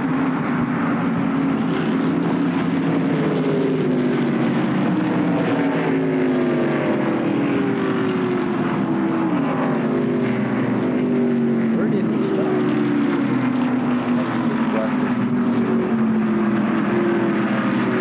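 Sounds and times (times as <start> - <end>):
race car engines passing by: 0.0 - 18.0.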